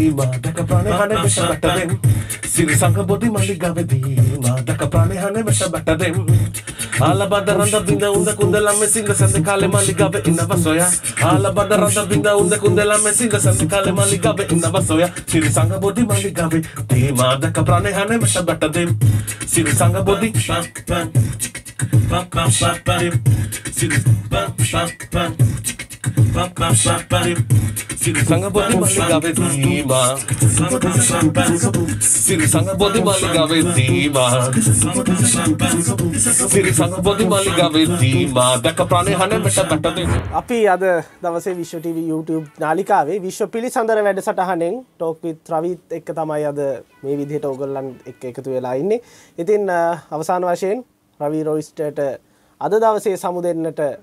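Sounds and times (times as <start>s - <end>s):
beatboxing into a microphone: 0.0s - 54.0s.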